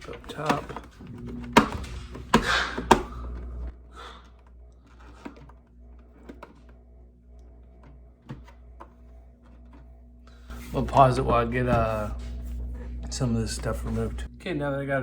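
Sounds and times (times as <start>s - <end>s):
plastic parts handled: 0.0s - 12.4s.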